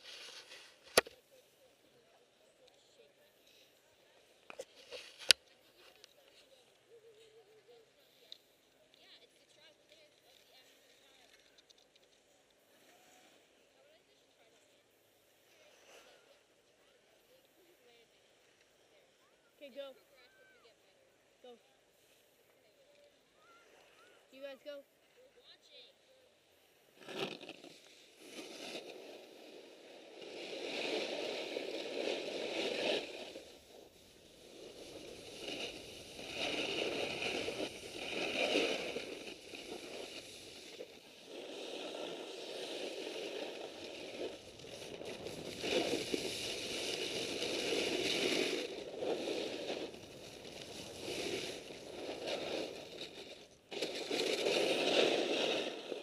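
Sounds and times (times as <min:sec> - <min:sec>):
skis crunching and scraping snow: 0:00.0 - 0:16.6, 0:26.6 - 0:56.0.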